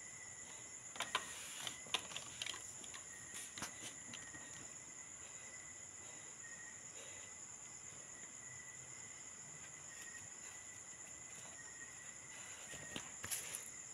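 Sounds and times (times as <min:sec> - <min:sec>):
crickets chirring: 0:00.0 - 0:13.9.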